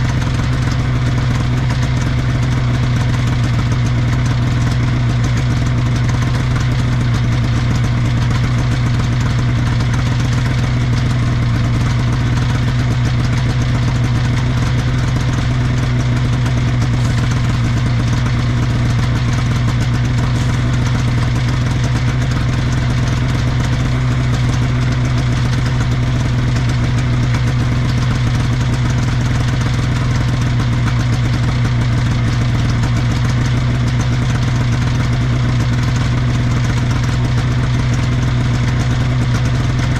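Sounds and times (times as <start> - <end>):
snowmobile engine idling: 0.0 - 39.9.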